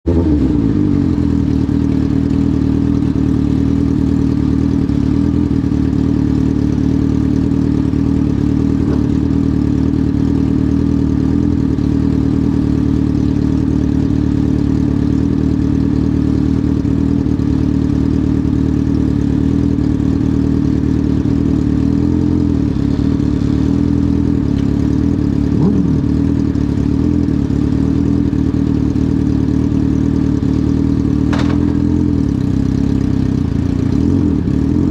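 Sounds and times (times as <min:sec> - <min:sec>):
motorcycle engine running steadily: 0:00.0 - 0:34.9.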